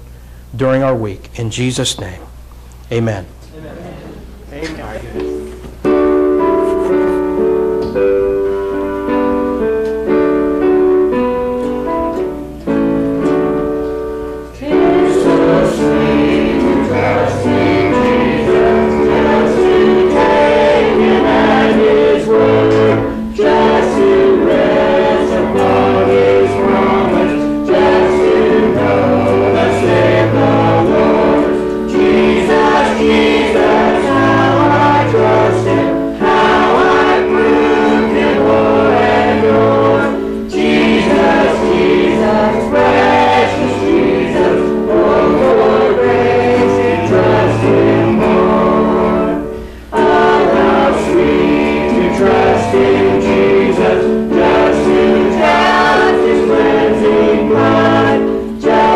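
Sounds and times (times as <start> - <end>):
congregation singing a hymn: 5.0 - 58.9.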